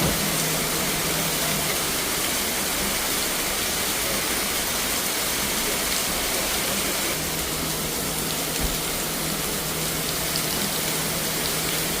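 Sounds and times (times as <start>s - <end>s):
heavy rain on a car: 0.0s - 12.0s.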